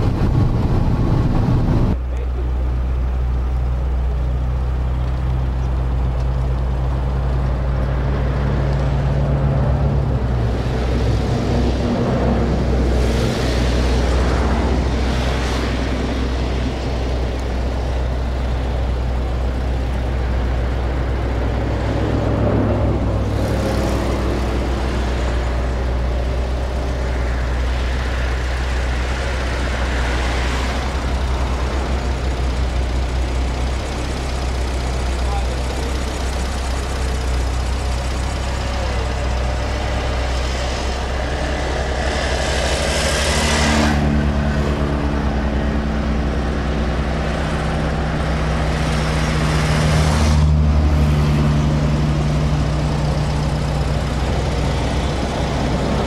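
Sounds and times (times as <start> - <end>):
rushing noise: 0.0 - 2.0, 9.0 - 35.3, 36.2 - 56.0
car engine drone: 0.0 - 56.0
road noise inside car: 0.0 - 56.0.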